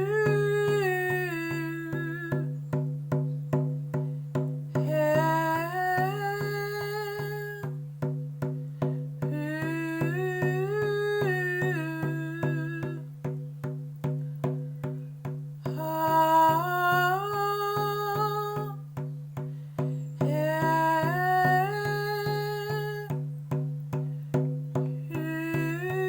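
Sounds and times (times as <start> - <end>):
woman singing wordless melody: 0.0 - 3.7, 4.3 - 13.7, 15.6 - 26.0.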